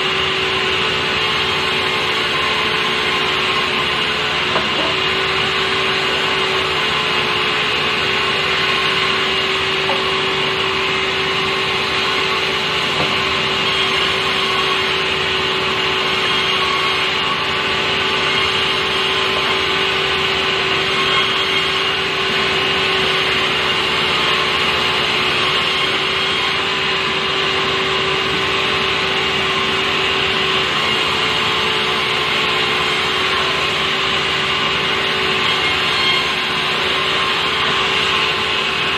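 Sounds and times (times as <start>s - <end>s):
sawmill saw cutting timber: 0.0s - 38.9s.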